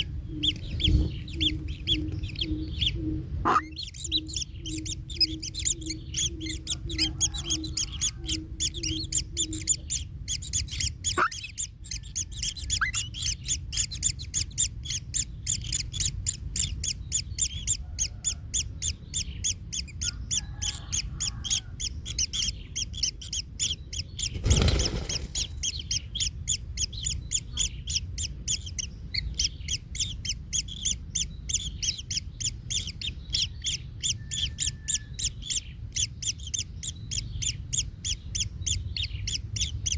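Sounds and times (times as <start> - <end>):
nestlings chirping: 0.0 - 39.9.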